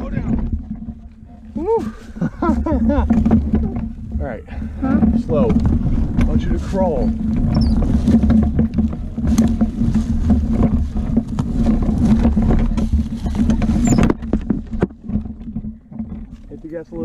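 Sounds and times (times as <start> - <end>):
small atv engine running: 2.4 - 16.2
sharp clicks and knocks: 2.4 - 17.0.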